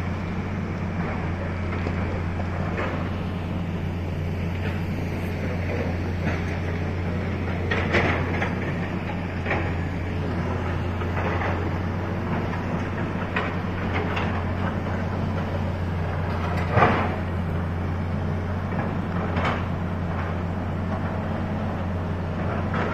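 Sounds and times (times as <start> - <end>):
excavator engine droning: 0.0 - 22.9.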